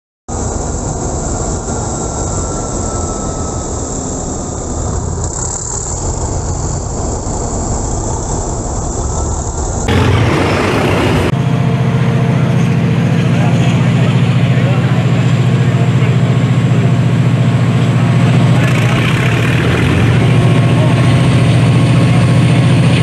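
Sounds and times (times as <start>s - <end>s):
diesel locomotive engines idling: 0.3s - 23.0s
heavy diesel engine noise: 0.3s - 23.0s.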